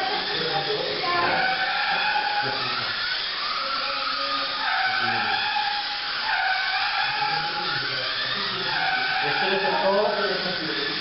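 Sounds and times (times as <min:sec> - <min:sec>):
toy car electric motors whining: 0:00.0 - 0:11.0.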